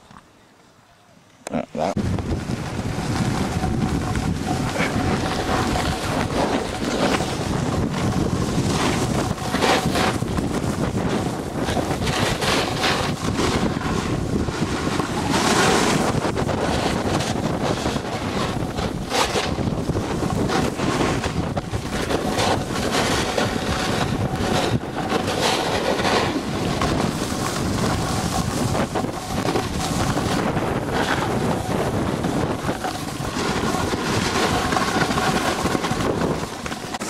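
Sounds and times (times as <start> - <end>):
snowboard edge scraping snow: 1.8 - 37.0
wind rushing over microphone: 1.8 - 37.0.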